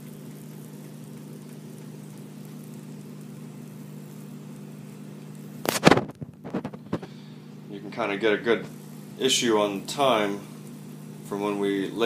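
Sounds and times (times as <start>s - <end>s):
batter sizzling in oil: 0.0s - 12.0s
steady low hum: 0.0s - 12.0s.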